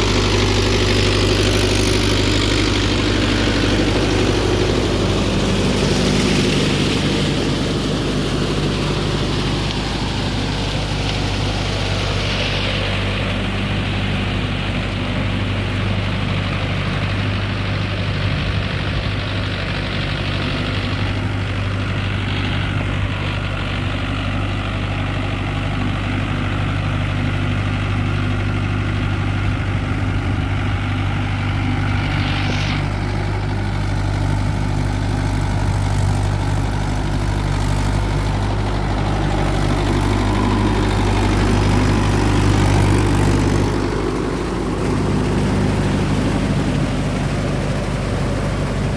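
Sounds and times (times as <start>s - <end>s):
tractor diesel engine droning: 0.0s - 48.9s.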